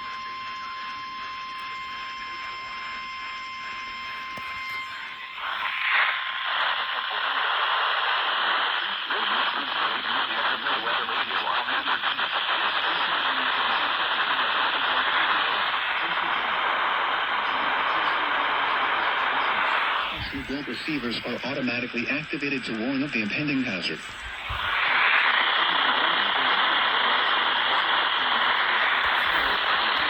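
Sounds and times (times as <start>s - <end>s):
faint steady whistle: 0.0s - 9.4s, 12.1s - 21.7s, 23.9s - 26.6s, 27.2s - 30.0s
radio hiss and static: 0.0s - 30.0s.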